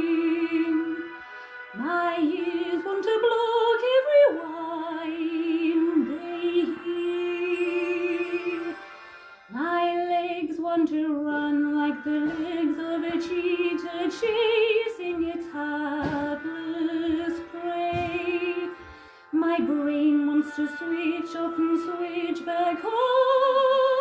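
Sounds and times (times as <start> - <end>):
person singing with vibrato: 0.0 - 24.0.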